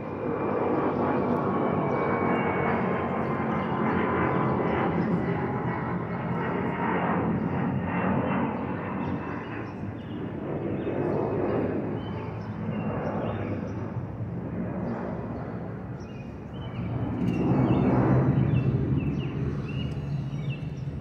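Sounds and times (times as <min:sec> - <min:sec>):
distant jet engine rumble: 0:00.0 - 0:21.0.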